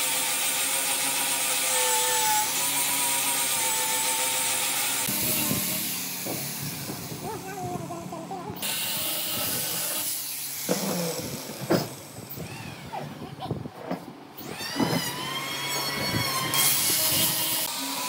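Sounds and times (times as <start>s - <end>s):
motor whining: 2.2s - 18.0s.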